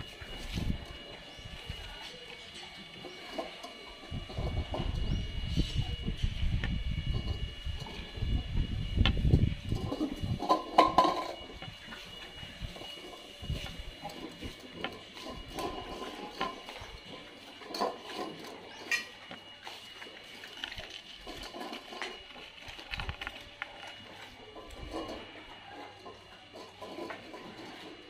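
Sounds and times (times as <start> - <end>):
metal bowls clinking and scraping: 0.0 - 6.2, 9.5 - 28.0.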